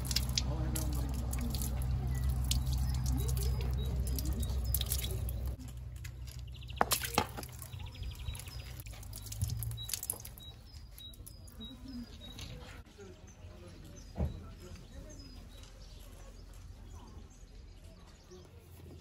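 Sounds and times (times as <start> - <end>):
bird chirps: 1.5 - 5.6, 6.2 - 18.5.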